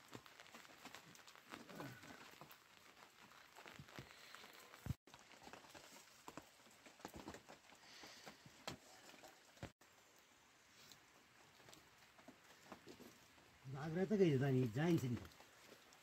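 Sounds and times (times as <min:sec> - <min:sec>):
faint ticks and crackles: 0:00.0 - 0:16.0.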